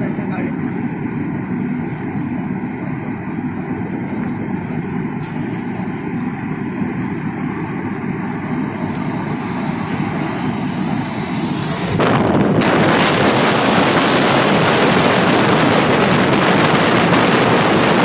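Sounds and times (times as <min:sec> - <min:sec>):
car engine hum: 0:00.0 - 0:18.0
tyres rumbling on road: 0:02.6 - 0:18.0.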